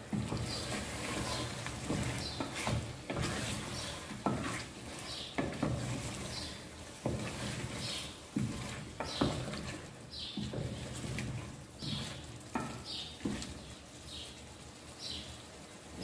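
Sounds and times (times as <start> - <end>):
spoon knocking and scraping pot: 0.0 - 13.6.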